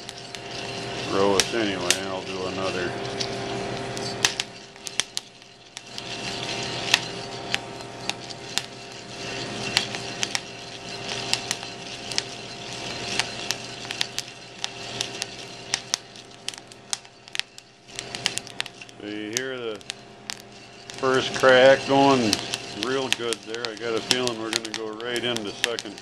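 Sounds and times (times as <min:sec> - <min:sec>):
beans stirred in pan: 0:00.0 - 0:26.0
coffee beans cracking: 0:00.0 - 0:26.0.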